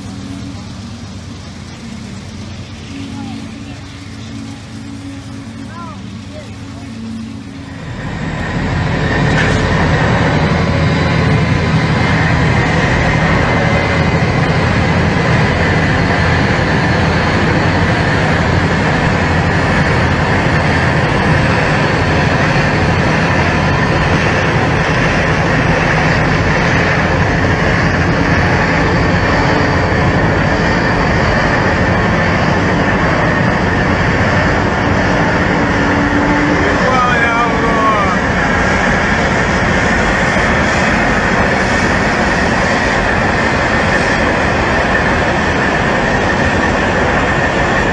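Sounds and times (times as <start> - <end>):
diesel locomotive engine running: 0.0 - 47.9
thin steady whine: 0.0 - 47.9.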